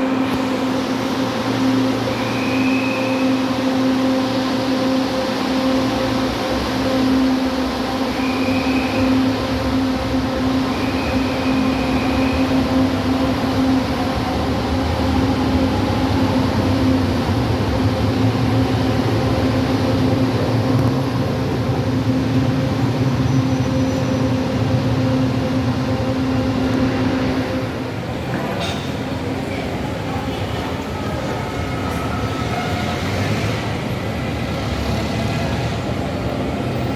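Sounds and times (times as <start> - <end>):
high train whines: 0.0 - 36.9
train rumbling with humming tone: 0.0 - 36.9.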